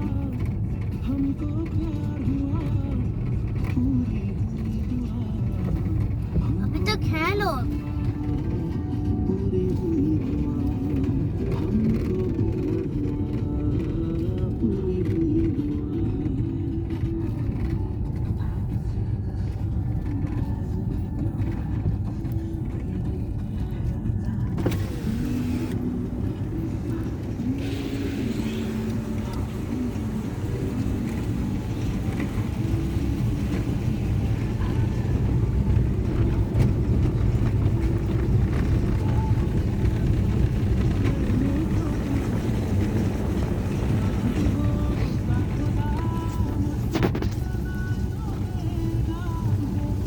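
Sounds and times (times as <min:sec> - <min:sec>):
car driving rumble: 0:00.0 - 0:50.0
faint voices or music: 0:00.0 - 0:50.0.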